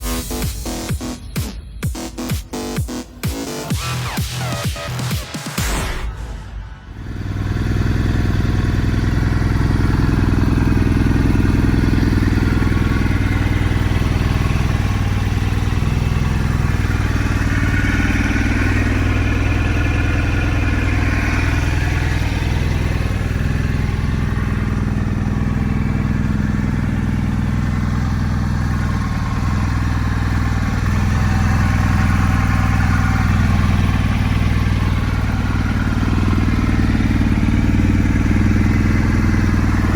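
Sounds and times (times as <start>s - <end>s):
motorcycle engine idling: 6.9s - 39.9s.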